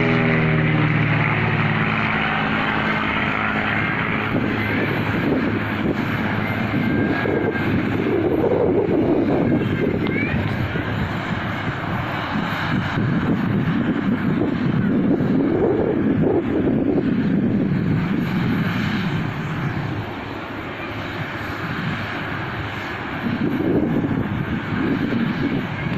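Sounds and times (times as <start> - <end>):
propeller plane engine drone: 0.0 - 25.9.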